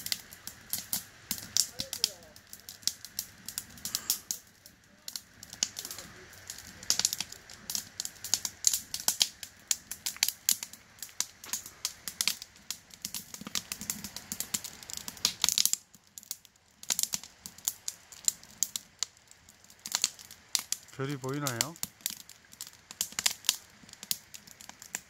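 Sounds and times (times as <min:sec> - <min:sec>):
campfire crackling: 0:00.0 - 0:25.0
fire pops and snaps: 0:00.0 - 0:25.0.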